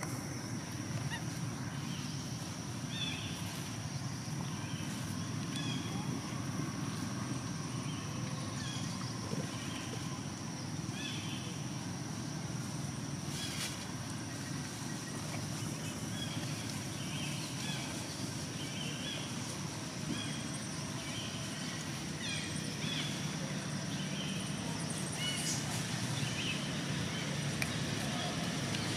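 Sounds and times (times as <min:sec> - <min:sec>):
steady low rumble: 0:00.0 - 0:28.9.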